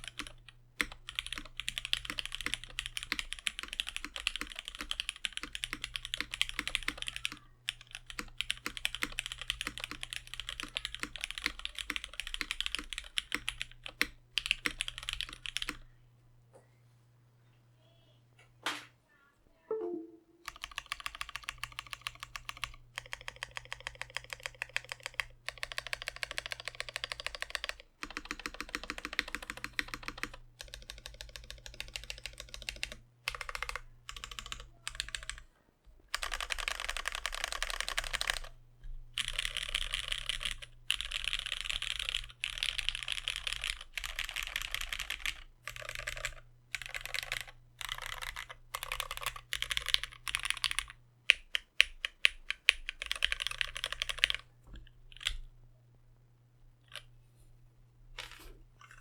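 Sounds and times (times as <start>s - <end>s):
mechanical keyboard typing: 0.0s - 15.8s, 19.8s - 35.4s, 36.1s - 38.6s, 39.2s - 55.5s.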